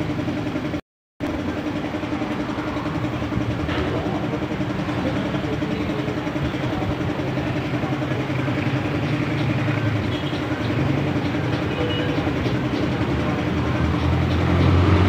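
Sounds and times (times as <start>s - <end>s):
engine low rumble: 0.0s - 15.0s
steady hum: 0.0s - 15.0s.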